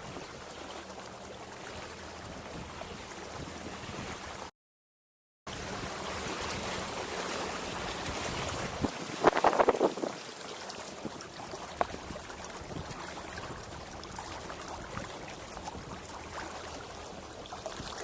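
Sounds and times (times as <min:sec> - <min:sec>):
water noise: 0:00.0 - 0:04.5, 0:05.5 - 0:18.0
wind: 0:00.0 - 0:04.5, 0:05.5 - 0:18.0.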